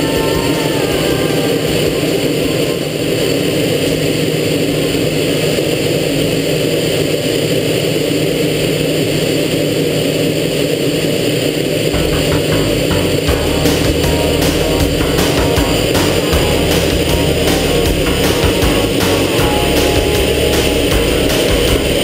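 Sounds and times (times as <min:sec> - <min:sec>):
thin high whine: 0:00.0 - 0:07.9, 0:11.6 - 0:22.0
jet engine drone: 0:00.0 - 0:22.0.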